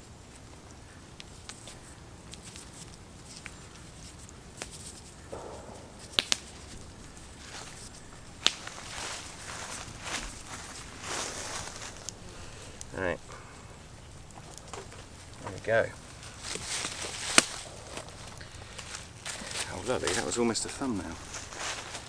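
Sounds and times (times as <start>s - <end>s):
rustling on forest floor: 0.2s - 22.0s
sharp twig cracks: 1.2s - 20.3s.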